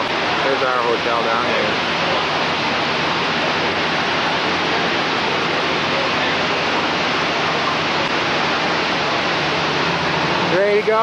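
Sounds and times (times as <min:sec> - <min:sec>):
steady rushing microphone noise: 0:00.0 - 0:11.0.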